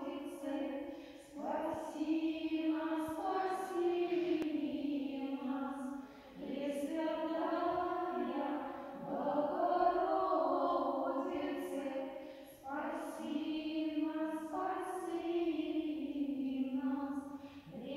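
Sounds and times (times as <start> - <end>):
women chanting a prayer: 0.0 - 17.9.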